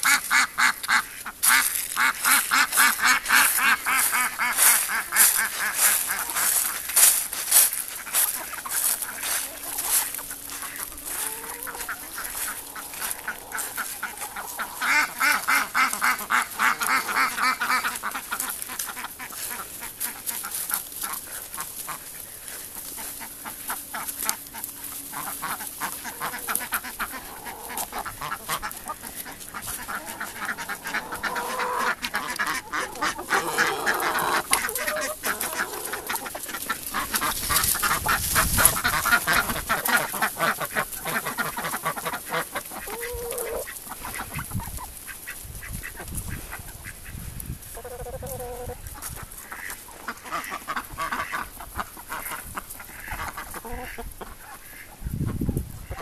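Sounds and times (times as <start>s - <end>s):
chickens clucking: 0.0s - 56.0s
ducks quacking: 0.0s - 56.0s.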